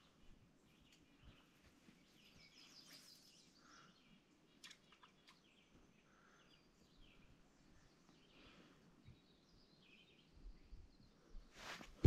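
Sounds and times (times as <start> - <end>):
songbird chirps and trills: 0.0 - 12.0.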